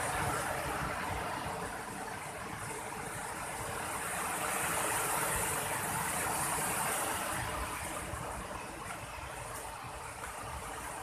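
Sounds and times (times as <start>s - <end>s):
water rushing over rapids: 0.0s - 11.0s.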